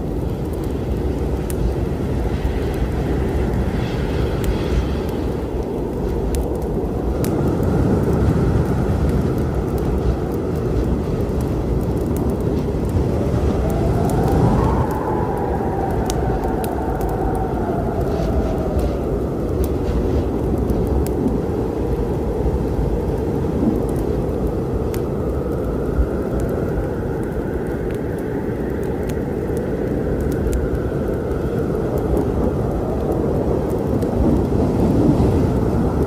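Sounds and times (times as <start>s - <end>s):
storm wind rumbling: 0.0s - 36.0s
wind whistling howl: 0.0s - 36.0s
wood fire crackling: 0.0s - 36.0s.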